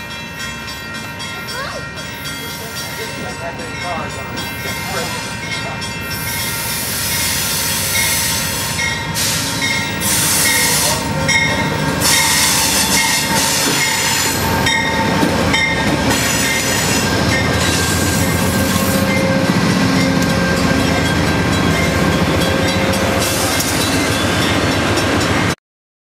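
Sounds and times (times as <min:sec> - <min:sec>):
train rolling slowly: 0:00.0 - 0:25.6
squealing train wheels: 0:04.2 - 0:25.3.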